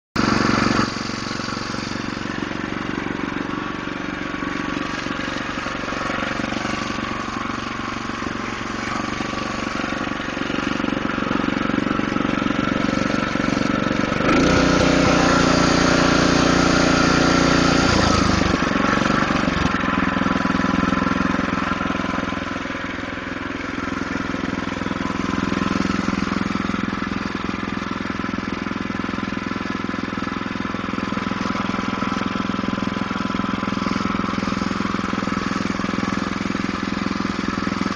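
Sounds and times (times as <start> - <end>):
snowblower engine running: 0.2 - 37.9.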